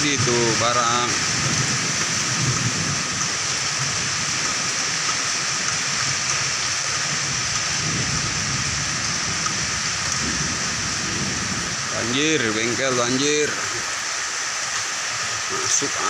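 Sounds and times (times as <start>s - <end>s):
heavy rain falling: 0.0s - 16.0s
rainwater pouring off roof: 0.0s - 16.0s.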